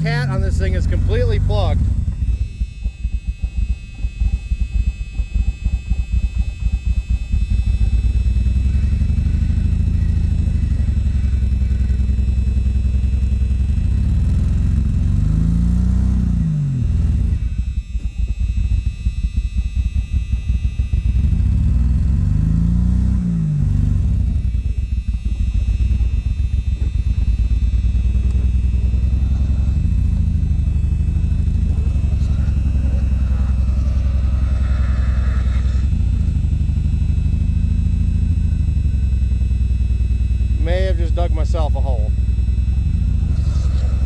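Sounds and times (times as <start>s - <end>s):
car engine running rough: 0.0s - 44.0s.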